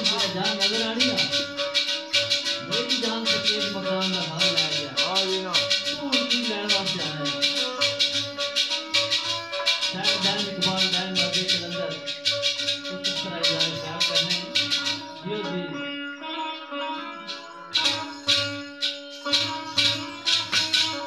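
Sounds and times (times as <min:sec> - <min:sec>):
shaken rattle: 0:00.0 - 0:15.2, 0:17.7 - 0:21.0
sitar: 0:00.0 - 0:21.0.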